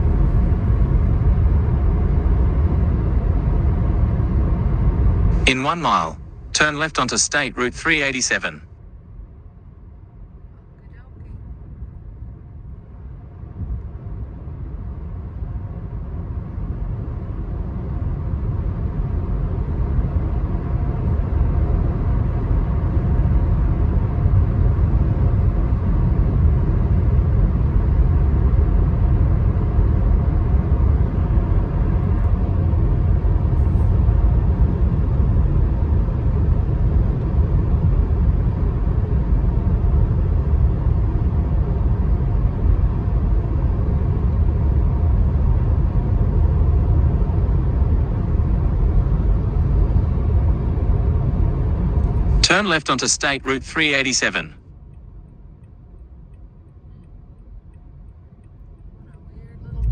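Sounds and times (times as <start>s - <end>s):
car tyre and engine rumble: 0.0s - 7.4s, 8.8s - 52.6s.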